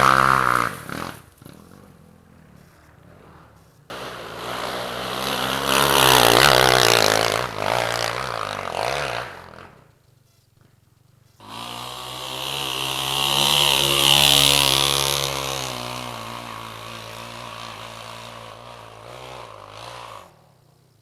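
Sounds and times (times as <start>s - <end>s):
motorcycle engine passing by: 0.0s - 10.7s, 11.4s - 21.0s.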